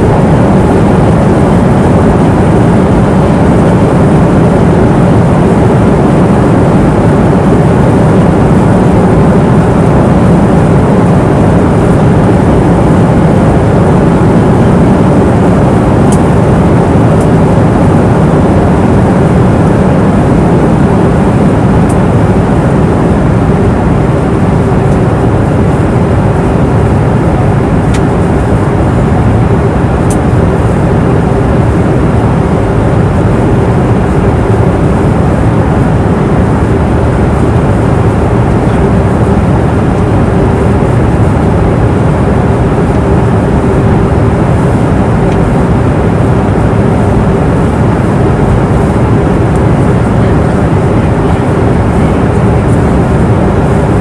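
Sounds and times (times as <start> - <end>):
airliner engine and airflow rush: 0.0 - 54.0
steady hum: 0.0 - 54.0.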